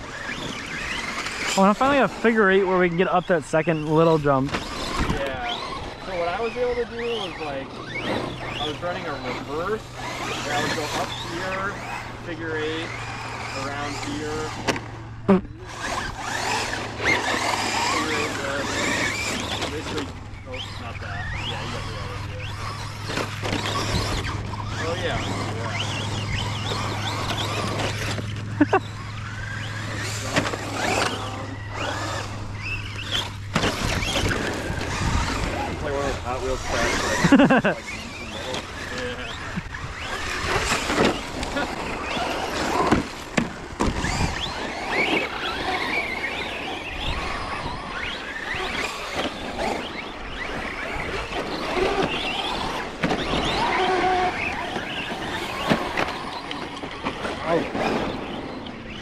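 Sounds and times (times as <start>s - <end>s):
rc truck electric motors whining: 0.0s - 59.0s.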